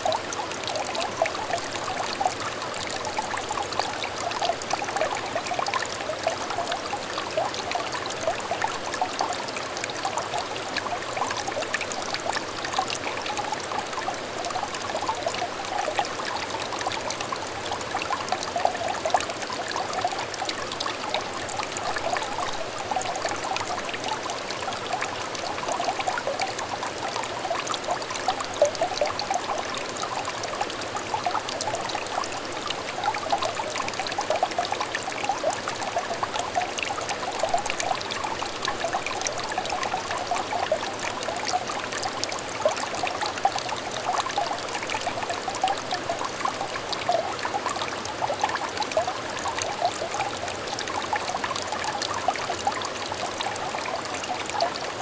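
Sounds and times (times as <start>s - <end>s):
stream trickling and babbling: 0.0s - 55.0s.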